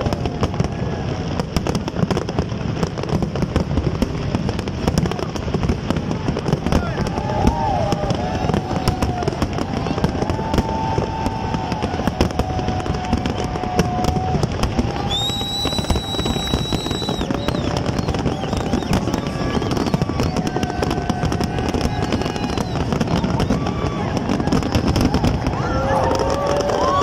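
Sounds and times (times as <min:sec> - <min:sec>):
fireworks crackling and banging: 0:00.0 - 0:27.0
fireworks whistling: 0:00.0 - 0:27.0.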